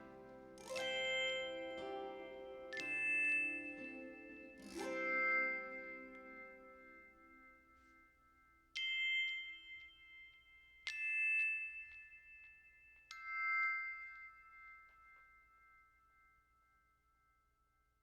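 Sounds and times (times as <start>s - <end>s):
bell-like chime notes: 0.0s - 17.0s.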